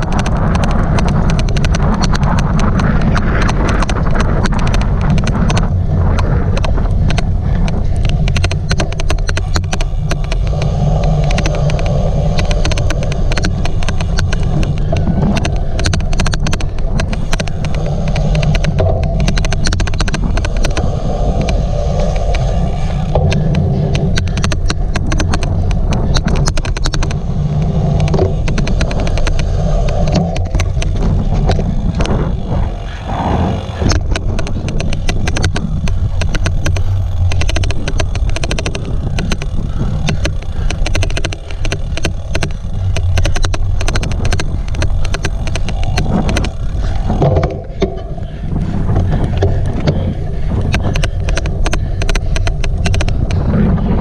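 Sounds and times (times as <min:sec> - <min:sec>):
bike tyre rumble: 0:00.0 - 0:54.0
sharp clicks from bike: 0:00.0 - 0:54.0
wind buffeting microphone: 0:00.0 - 0:54.0.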